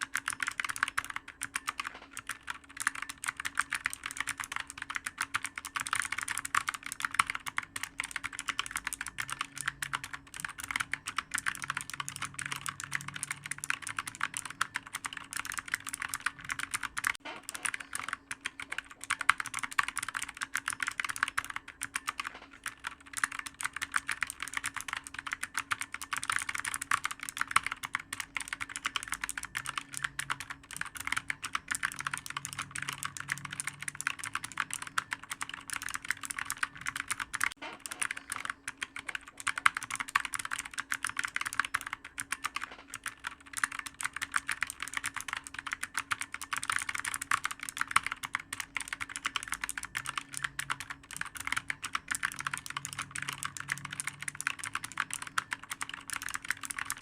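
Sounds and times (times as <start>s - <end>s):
clicky keyboard typing: 0.0s - 57.0s
faint steady hum: 0.0s - 57.0s.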